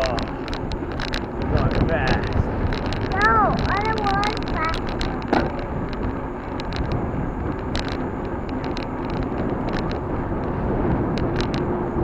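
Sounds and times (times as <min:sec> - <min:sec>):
bicycle tyres rumbling: 0:00.0 - 0:12.0
bike ticks and rattles: 0:00.0 - 0:12.0
wind rushing over microphone: 0:00.0 - 0:12.0.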